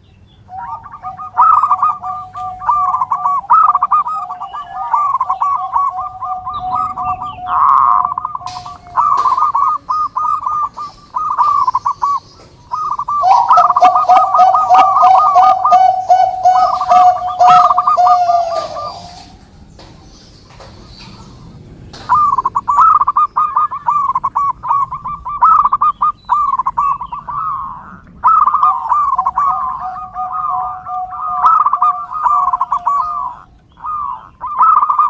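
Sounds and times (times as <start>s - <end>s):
doves cooing: 0.0s - 35.0s.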